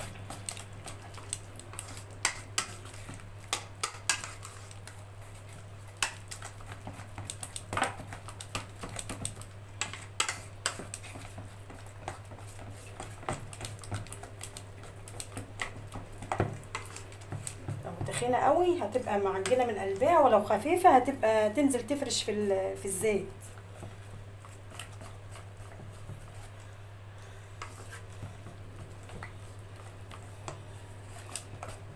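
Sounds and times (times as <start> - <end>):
wet batter slapping by hand: 0.0 - 22.3, 22.9 - 31.9.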